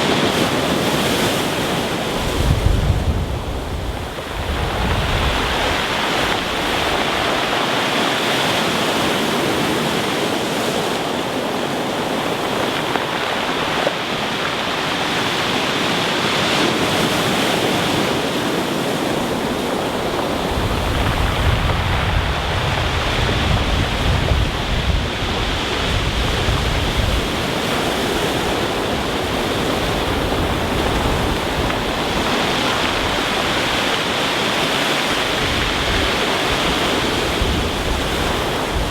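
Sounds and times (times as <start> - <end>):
surf breaking on pebble beach: 0.0 - 38.9.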